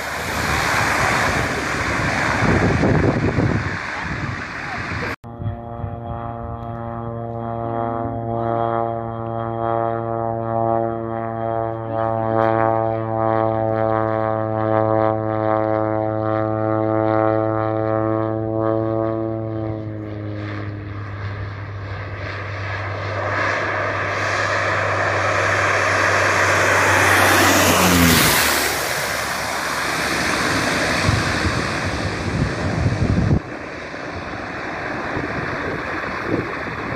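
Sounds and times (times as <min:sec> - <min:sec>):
low plane passing roar: 0:00.0 - 0:36.9
propeller plane engine drone: 0:00.0 - 0:36.9.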